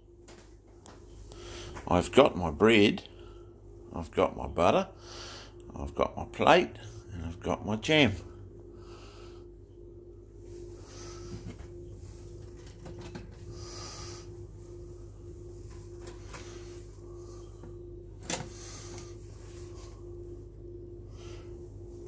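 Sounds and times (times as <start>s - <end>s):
faint pulsing hum: 0.0s - 22.0s.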